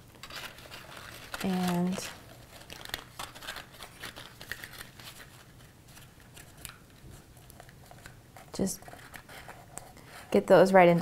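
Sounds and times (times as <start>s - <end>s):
paper rustling and crinkling: 0.1s - 10.2s.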